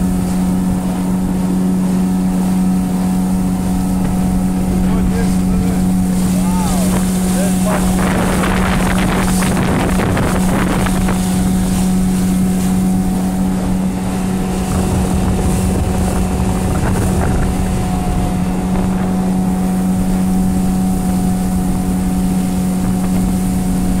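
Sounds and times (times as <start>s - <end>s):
motorboat engine running: 0.0s - 24.0s
water rushing past hull: 0.0s - 24.0s
wind buffeting microphone: 0.0s - 24.0s.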